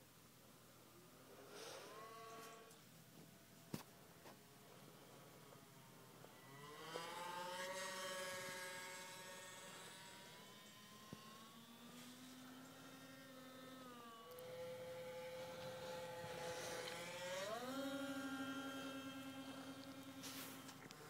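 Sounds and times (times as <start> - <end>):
model airplane motor whining: 1.6 - 2.9, 4.5 - 21.0.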